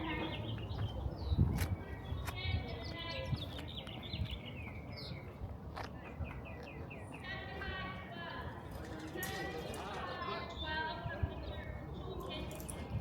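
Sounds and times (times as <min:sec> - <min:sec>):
small birds chirping: 0:00.0 - 0:05.4, 0:06.0 - 0:13.0
outdoor crowd rumble: 0:00.0 - 0:13.0.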